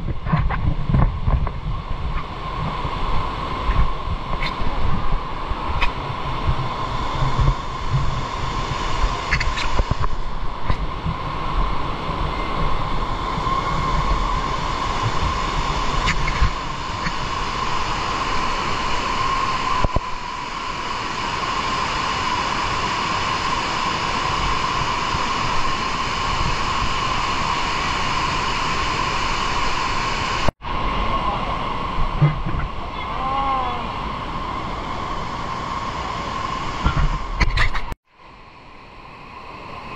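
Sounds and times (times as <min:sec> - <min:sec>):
stream water rushing: 0:01.8 - 0:39.9.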